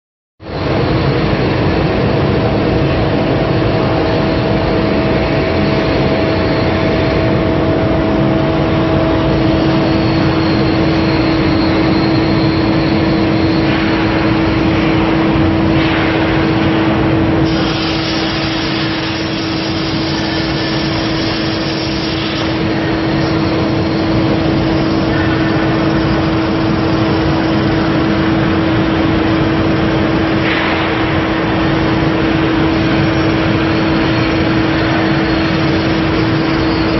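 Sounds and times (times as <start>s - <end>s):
constant humming tone: 0.4s - 36.9s
metal cutting machine hissing: 2.3s - 36.9s.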